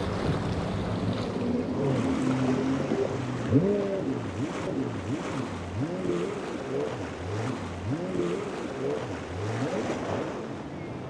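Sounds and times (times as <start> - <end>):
outboard motors running hard: 0.0 - 11.0
rushing spray and waves: 0.0 - 11.0.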